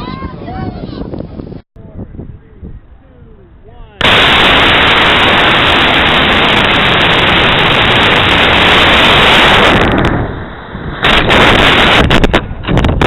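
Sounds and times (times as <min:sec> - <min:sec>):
rushing air flight noise: 0:00.0 - 0:13.0.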